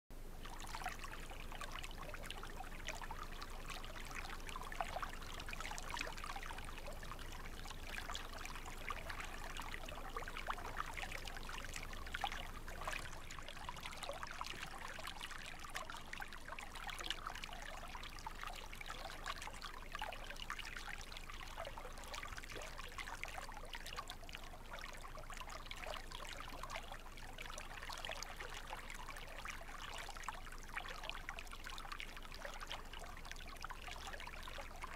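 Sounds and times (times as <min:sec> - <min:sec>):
shallow stream trickling: 0:00.2 - 0:34.9.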